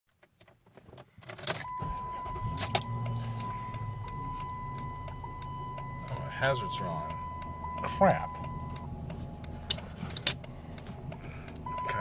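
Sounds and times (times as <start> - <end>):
car starter clicks: 1.2 - 12.0
car engine idling: 1.6 - 12.0.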